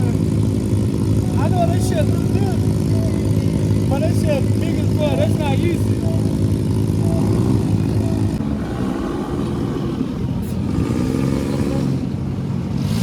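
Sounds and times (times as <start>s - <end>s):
dune buggy engine revving: 0.0s - 13.0s.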